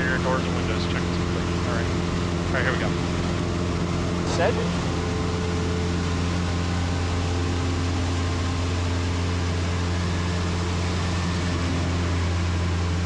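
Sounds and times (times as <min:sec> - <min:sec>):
propeller engine droning: 0:00.0 - 0:13.0.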